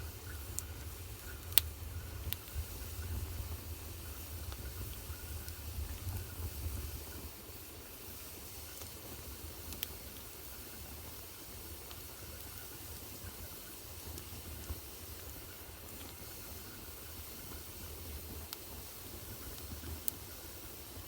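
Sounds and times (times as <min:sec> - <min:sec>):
fire crackling and popping: 0:00.0 - 0:21.0
fire rumbling and hissing: 0:00.0 - 0:21.0.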